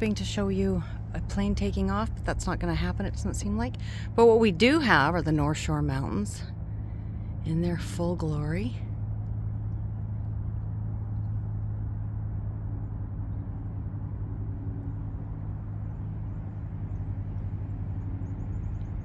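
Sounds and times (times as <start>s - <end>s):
distant engine droning: 0.0s - 19.0s.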